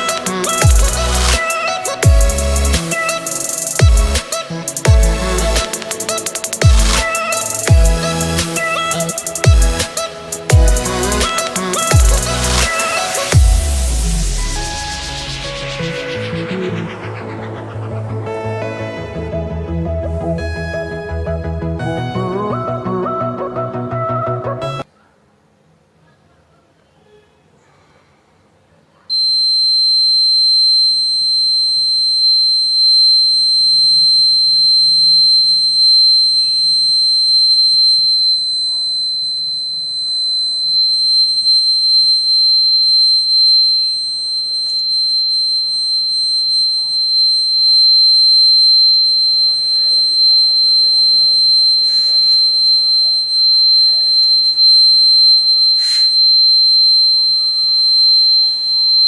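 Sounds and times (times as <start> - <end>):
buzzer high-pitched tone: 0.0 - 17.8, 29.1 - 59.0.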